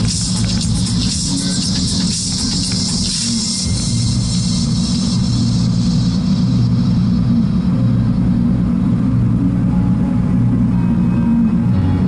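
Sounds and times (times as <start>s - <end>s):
diesel engine droning: 0.0s - 12.0s
tyre and road noise: 0.0s - 12.0s.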